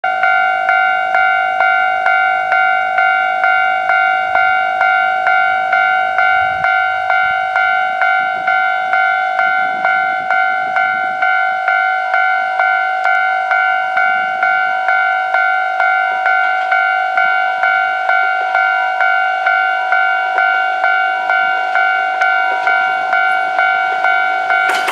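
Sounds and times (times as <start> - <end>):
level crossing alarm ringing: 0.0 - 24.9.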